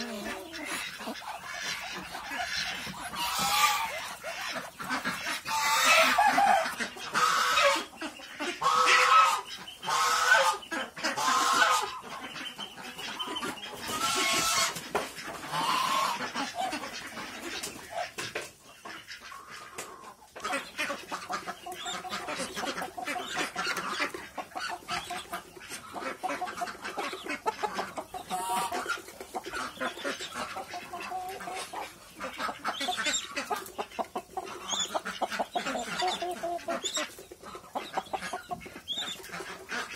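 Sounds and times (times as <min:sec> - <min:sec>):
poultry calling: 0:00.0 - 0:39.9.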